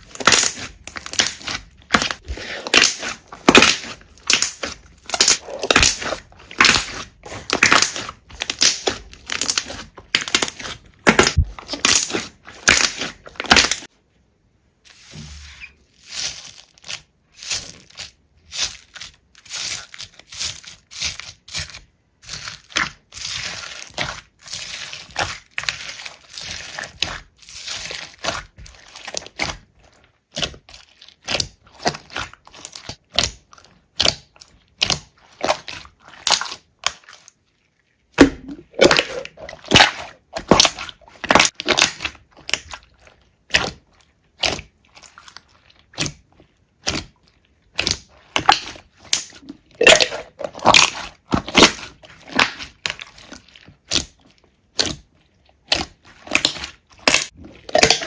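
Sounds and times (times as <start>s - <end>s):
hands squeezing sticky slime: 0.0s - 13.9s, 14.9s - 58.0s.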